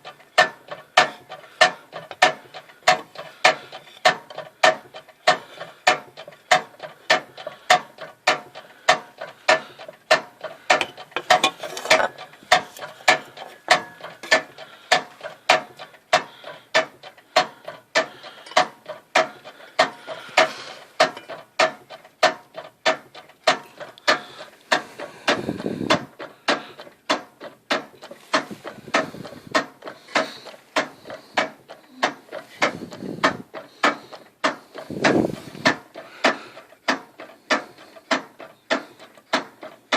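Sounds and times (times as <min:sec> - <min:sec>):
metallic drivetrain clunks: 0:00.0 - 0:39.9.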